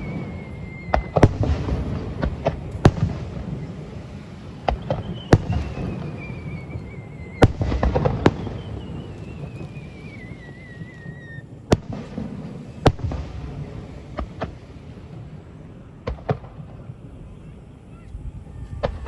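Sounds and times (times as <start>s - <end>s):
wavering whistles falling in pitch: 0.0s - 16.0s
fireworks bangs: 0.0s - 19.0s
fireworks crackling: 0.0s - 19.0s.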